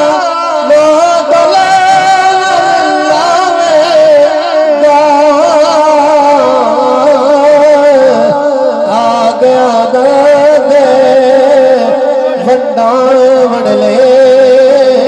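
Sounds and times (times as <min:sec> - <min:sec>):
man singing through loudspeaker: 0:00.0 - 0:15.0.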